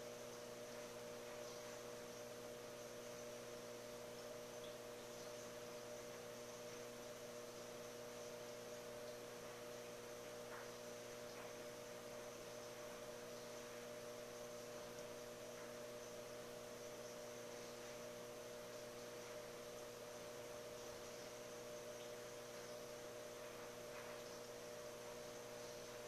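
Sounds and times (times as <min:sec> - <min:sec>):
aquarium equipment hum: 0:00.0 - 0:26.0
soft hiss: 0:00.0 - 0:26.0.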